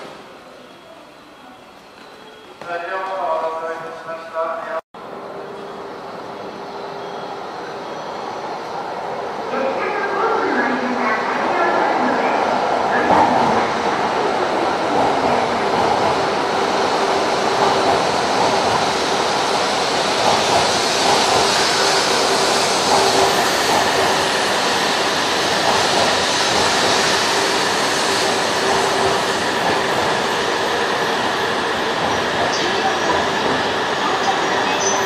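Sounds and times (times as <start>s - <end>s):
train wheels and air rushing: 6.3s - 35.0s.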